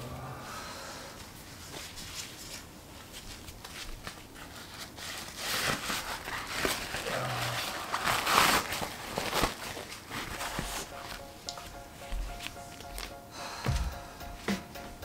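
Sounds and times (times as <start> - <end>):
rustling: 1.2 - 13.2.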